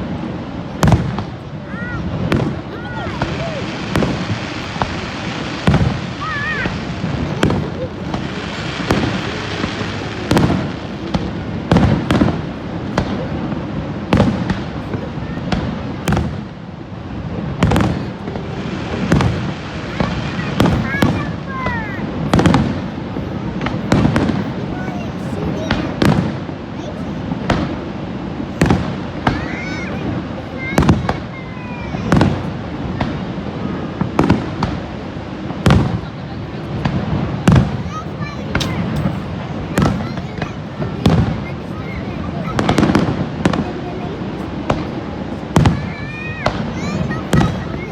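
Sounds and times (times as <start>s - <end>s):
background rush: 0.0s - 47.9s
fireworks bangs: 0.0s - 47.9s.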